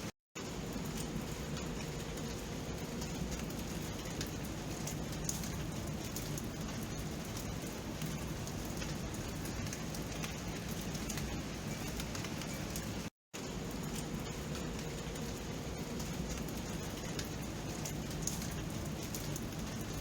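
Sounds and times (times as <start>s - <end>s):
steady rainfall: 0.4s - 20.0s.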